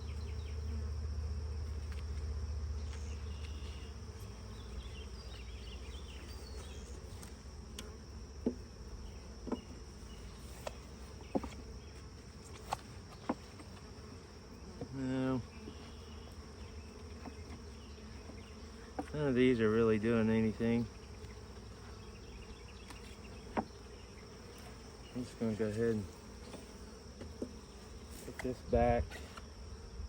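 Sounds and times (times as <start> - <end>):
bees humming: 0.0 - 30.0.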